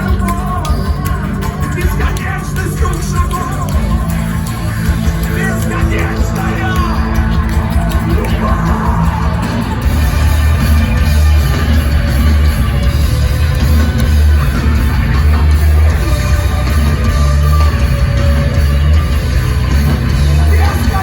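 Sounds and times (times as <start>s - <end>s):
distorted guitar: 0.0s - 21.0s
drums: 0.0s - 21.0s
heavy rock band playing live: 0.0s - 21.0s
low bass: 0.0s - 21.0s.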